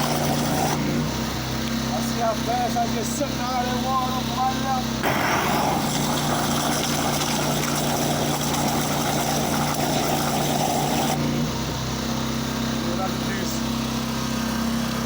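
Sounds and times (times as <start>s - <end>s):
pressure washer engine running: 0.0s - 15.0s.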